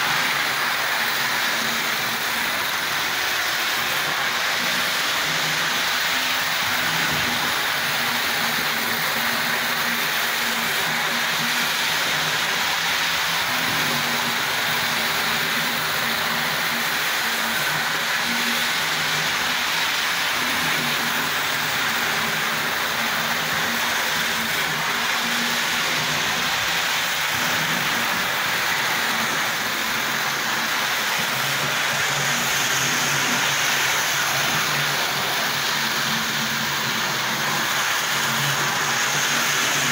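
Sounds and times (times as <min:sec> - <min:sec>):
model train wheels hissing on track: 0:00.0 - 0:39.9.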